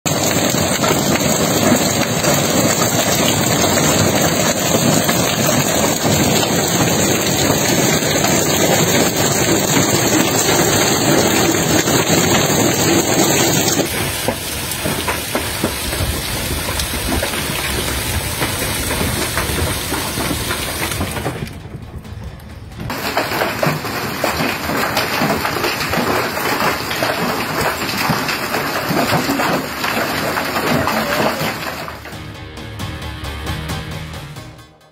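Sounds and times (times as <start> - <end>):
water pouring off roof edge: 0.0 - 21.6, 22.9 - 32.2
hail pelting lawn and paving: 0.0 - 21.8, 22.9 - 32.2
rain downpour: 0.0 - 22.1, 22.8 - 32.2.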